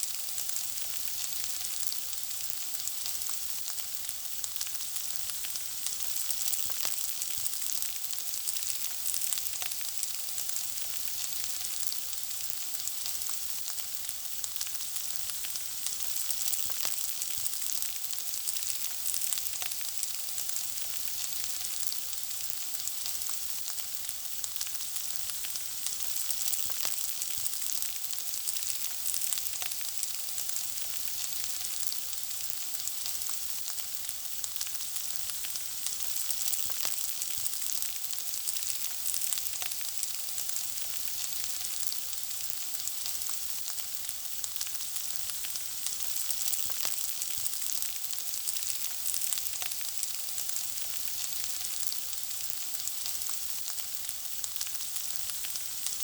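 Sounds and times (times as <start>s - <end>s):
food frying in hot oil: 0.0s - 56.0s.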